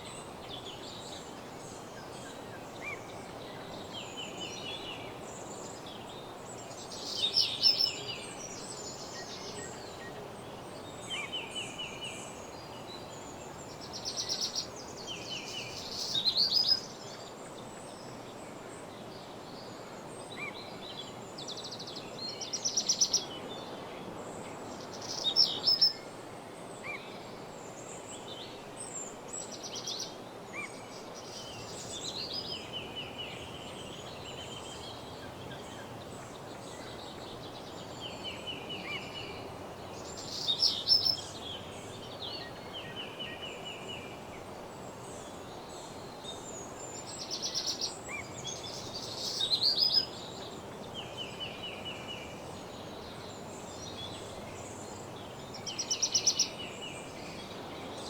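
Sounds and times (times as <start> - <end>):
songbirds singing: 0.0 - 26.1, 26.8 - 58.0
steady background hiss: 0.0 - 58.0.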